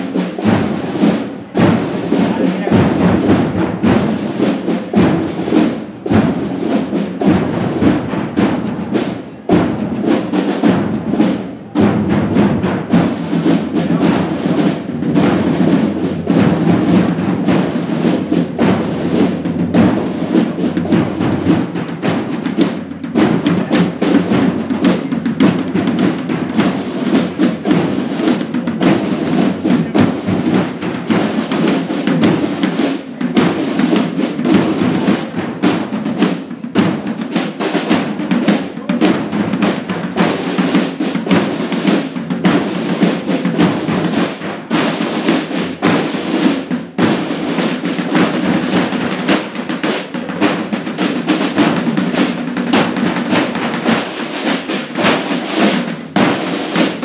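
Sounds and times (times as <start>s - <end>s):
drums beating marching rhythm: 0.0s - 57.0s.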